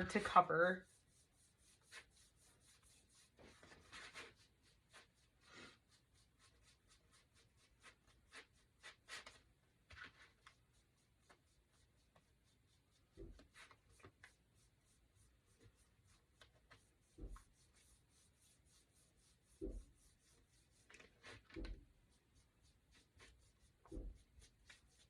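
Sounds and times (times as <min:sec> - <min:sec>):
paintbrush swishing on wood: 0:00.0 - 0:25.0.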